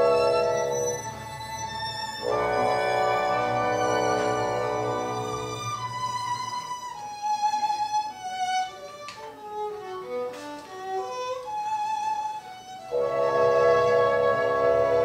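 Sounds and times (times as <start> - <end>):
orchestral accompaniment: 0.0 - 15.0
solo violin melody: 0.0 - 15.0.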